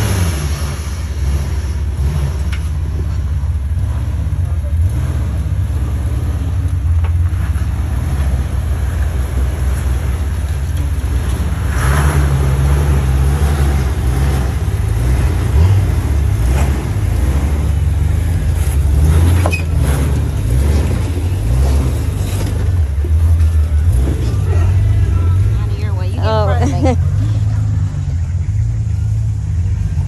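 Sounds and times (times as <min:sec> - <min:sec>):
car engine droning: 0:00.0 - 0:30.0.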